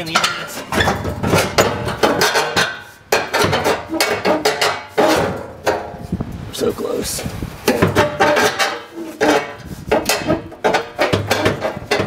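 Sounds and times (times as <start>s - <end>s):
metal fuel tank clanking: 0.0s - 6.1s, 7.6s - 12.0s.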